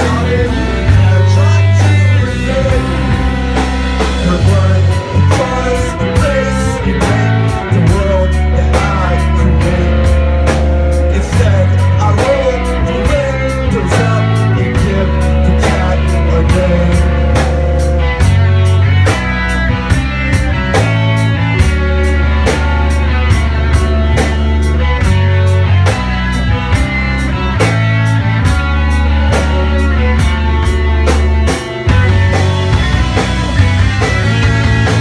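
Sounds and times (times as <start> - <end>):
bass: 0.0 - 35.0
drum kit beat: 0.0 - 35.0
guitar: 0.0 - 35.0.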